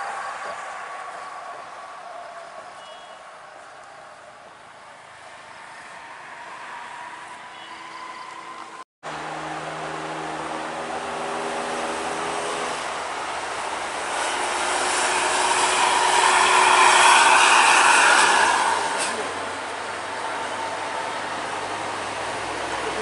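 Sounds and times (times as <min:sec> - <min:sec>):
diesel coach engine passing: 0:00.0 - 0:23.0
road noise: 0:00.0 - 0:23.0.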